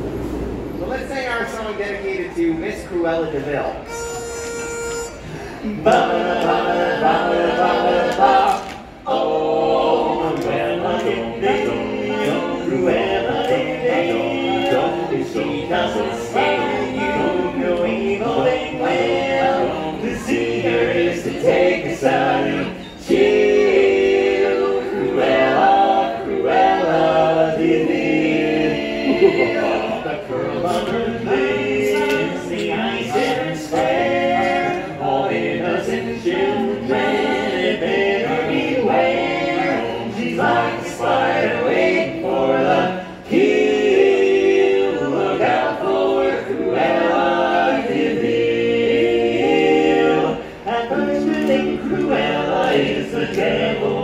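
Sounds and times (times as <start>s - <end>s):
men singing in close harmony: 5.7s - 54.0s.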